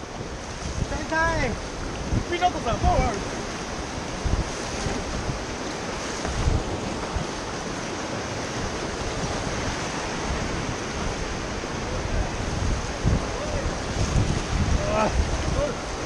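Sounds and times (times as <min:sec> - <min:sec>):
whitewater rapids rushing: 0:00.0 - 0:16.0
wind buffeting microphone: 0:00.0 - 0:16.0.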